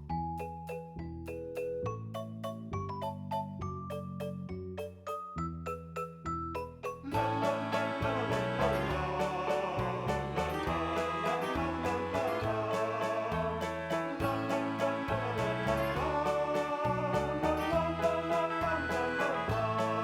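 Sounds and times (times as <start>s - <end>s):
light plucked melody: 0.0s - 20.0s.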